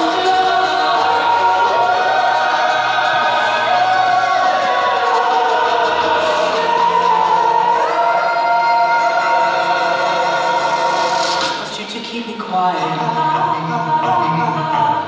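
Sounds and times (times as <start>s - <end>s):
choir holding long notes: 0.0s - 11.8s, 12.8s - 15.0s.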